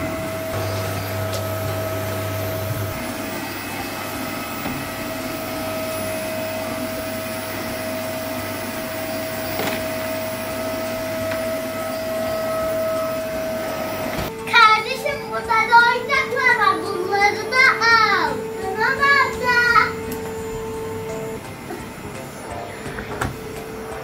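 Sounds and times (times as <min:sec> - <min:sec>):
vacuum cleaner whining: 0:00.0 - 0:24.0.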